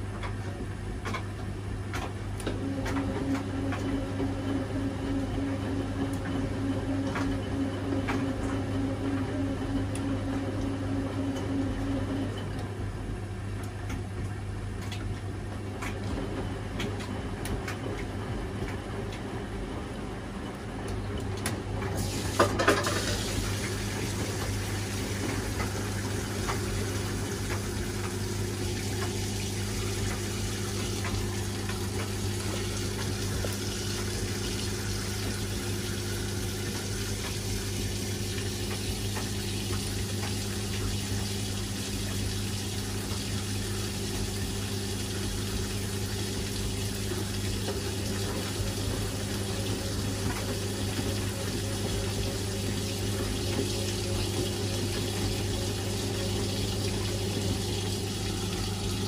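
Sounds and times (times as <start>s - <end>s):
pump humming: 0.0s - 59.0s
water flowing in washing machine: 0.0s - 59.0s.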